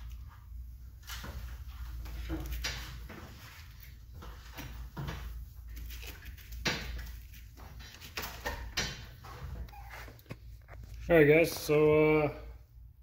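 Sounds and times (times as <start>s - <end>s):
hands rustling tubing: 0.0s - 11.9s.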